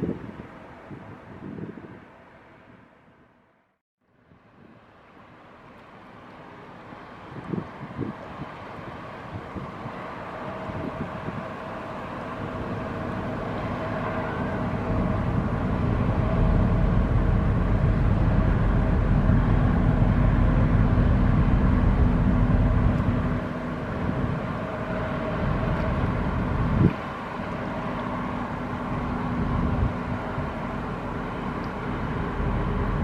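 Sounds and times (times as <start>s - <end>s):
ferry engines rumbling: 5.0s - 33.0s.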